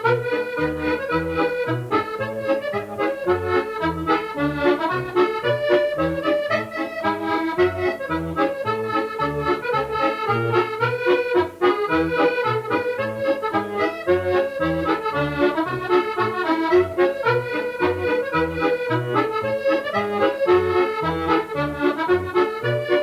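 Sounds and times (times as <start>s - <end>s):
accordion tune: 0.0s - 23.0s.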